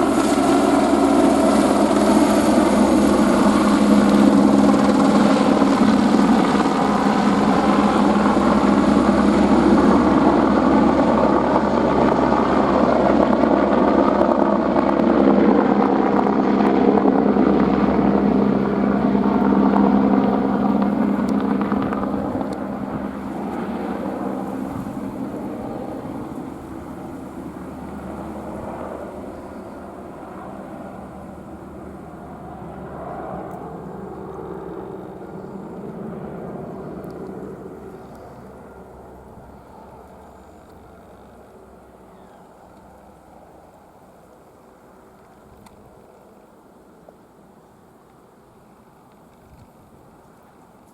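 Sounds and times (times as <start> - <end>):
helicopter engine and rotor: 0.0 - 49.2.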